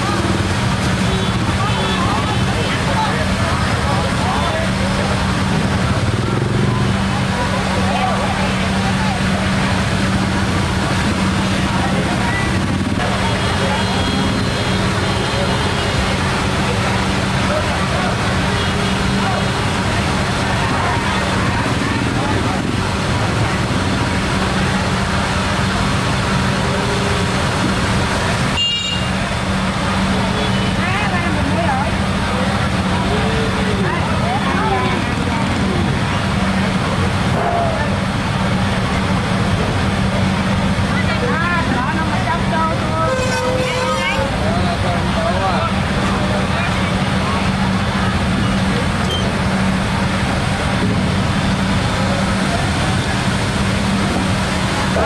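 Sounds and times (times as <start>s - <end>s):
motor vehicle engine running: 0.0s - 55.0s
voices: 0.0s - 55.0s.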